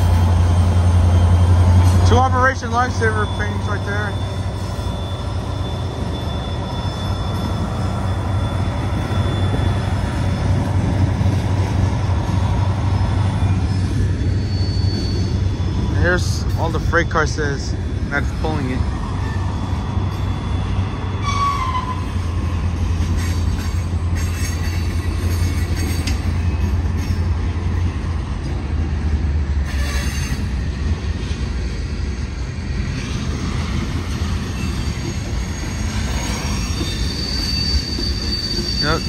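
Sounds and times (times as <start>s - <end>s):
high wheel squeal: 0.0s - 27.5s, 29.6s - 31.0s, 32.8s - 39.0s
train wheels rumbling on rail: 0.0s - 39.0s.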